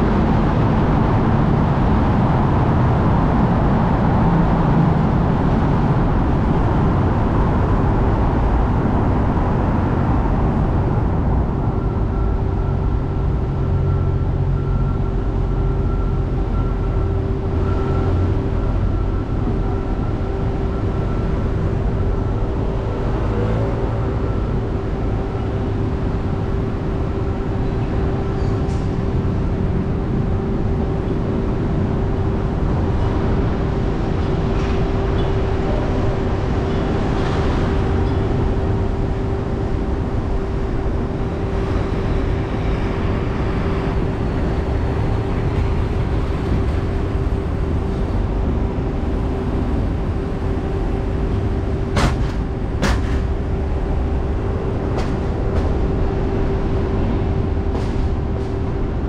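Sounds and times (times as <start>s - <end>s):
car engine and tyre noise: 0.0s - 59.0s
constant hum: 0.0s - 59.0s.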